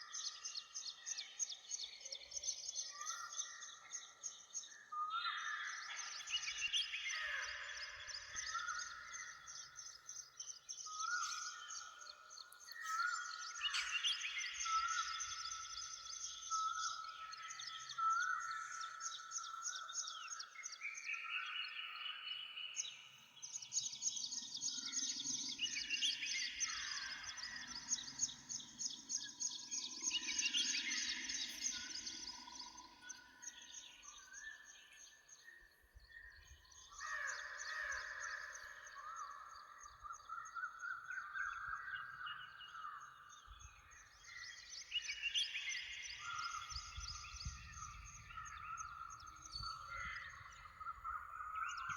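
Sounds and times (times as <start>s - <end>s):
songbirds trilling and chirping: 0.0s - 51.9s.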